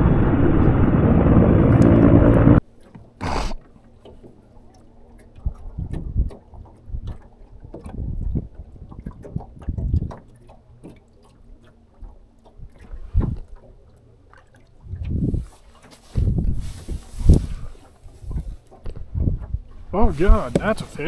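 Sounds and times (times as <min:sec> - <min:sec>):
water slapping against boat hull: 0:01.7 - 0:21.0.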